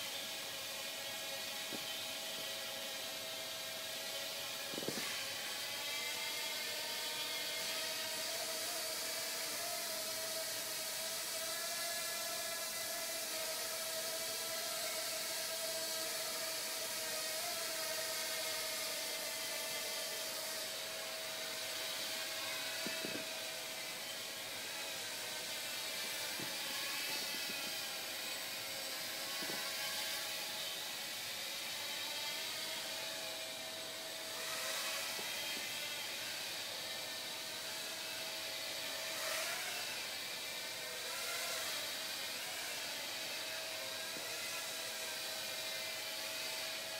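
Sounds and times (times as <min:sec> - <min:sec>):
quadcopter whirring buzz: 0:00.0 - 0:46.9.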